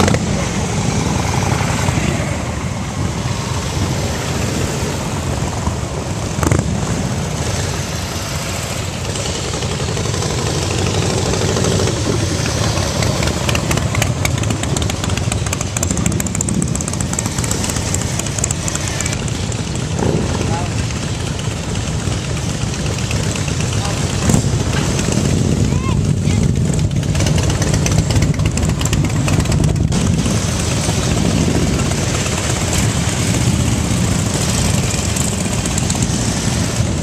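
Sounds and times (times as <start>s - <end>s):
motorcycle engines running: 0.0s - 37.0s.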